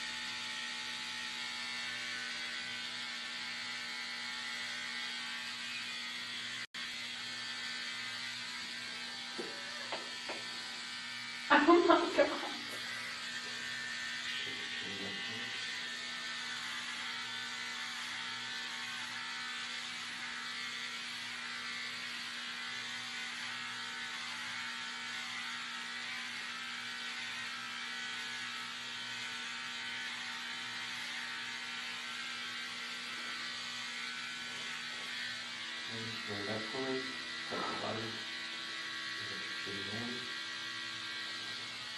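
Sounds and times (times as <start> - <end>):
electric hair clippers buzzing: 0.0 - 41.9.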